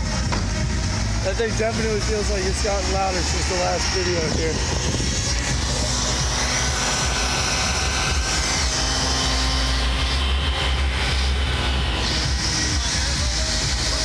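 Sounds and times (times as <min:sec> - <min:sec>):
deep subwoofer bass: 0:00.0 - 0:14.0.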